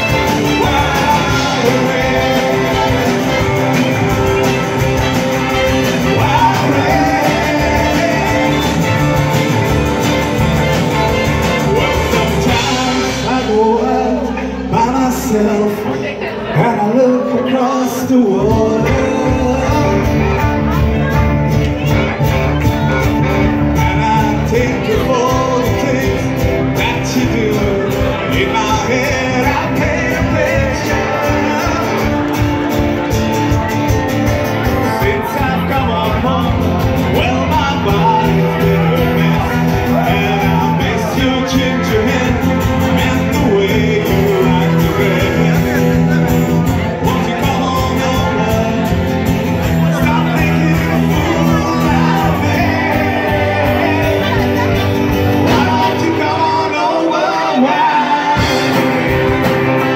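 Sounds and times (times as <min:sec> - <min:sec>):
man singing into microphone: 0:00.0 - 0:04.6, 0:05.6 - 0:09.7, 0:11.4 - 0:21.1, 0:23.2 - 0:32.7, 0:34.6 - 0:59.9
amplified acoustic guitar: 0:00.0 - 0:59.9
band accompaniment: 0:00.0 - 0:59.9.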